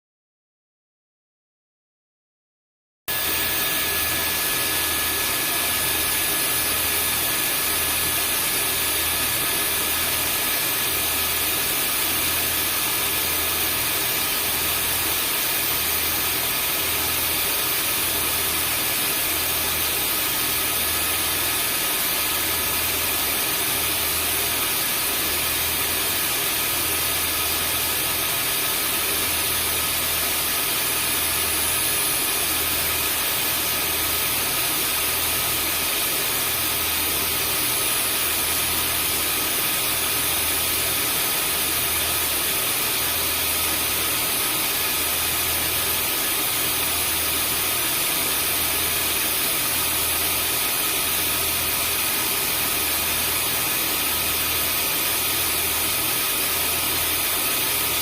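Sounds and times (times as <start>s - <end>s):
vacuum cleaner running: 3.1s - 58.0s.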